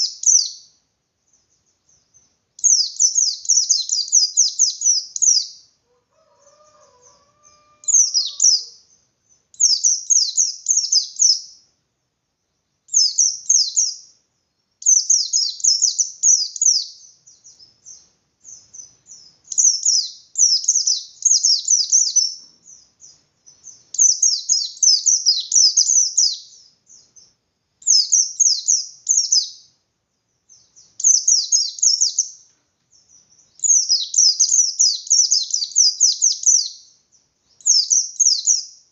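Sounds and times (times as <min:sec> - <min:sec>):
bird chattering song: 0:00.0 - 0:05.7, 0:06.4 - 0:11.6, 0:12.6 - 0:29.7, 0:30.3 - 0:38.9.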